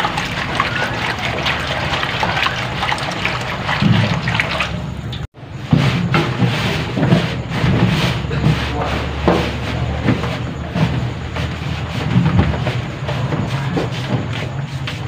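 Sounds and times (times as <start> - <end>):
hands kneading wet dough: 0.0 - 15.0
watery squishing and sloshing: 0.0 - 15.0.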